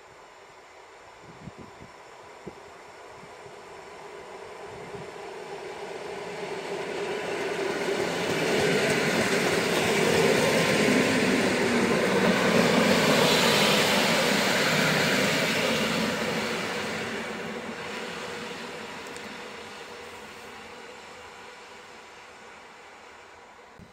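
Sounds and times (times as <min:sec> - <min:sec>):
train rumbling on rails: 0:00.0 - 0:23.9.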